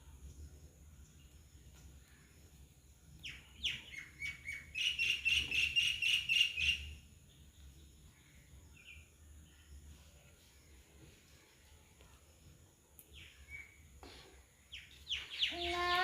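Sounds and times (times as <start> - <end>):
bird chirping: 1.0 - 11.8, 13.0 - 16.0.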